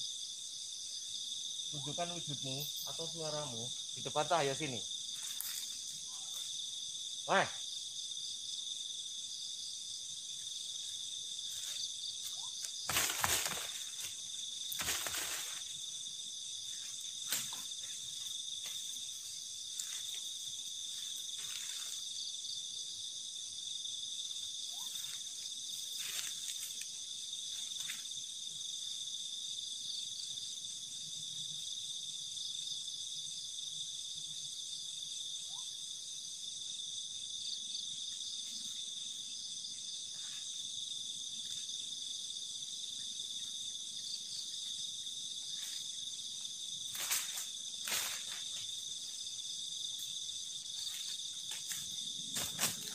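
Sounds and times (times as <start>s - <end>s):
night insects chirring: 0.0s - 52.9s.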